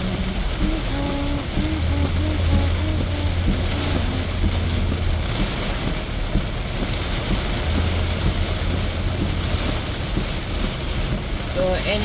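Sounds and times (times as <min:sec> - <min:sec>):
heavy rain on car roof: 0:00.0 - 0:12.0
low drone of car: 0:00.0 - 0:12.0.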